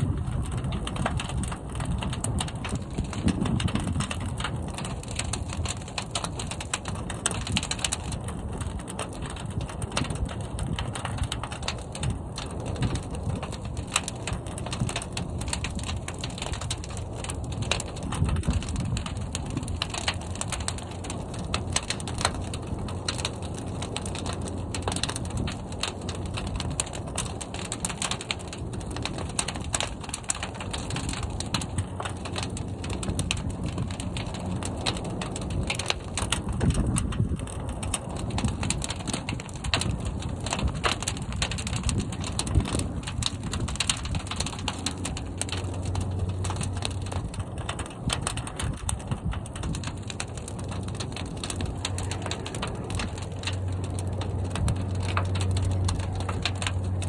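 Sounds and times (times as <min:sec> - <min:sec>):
fire crackling: 0:00.0 - 0:57.0
fire rumbling in a kiln: 0:00.0 - 0:57.0.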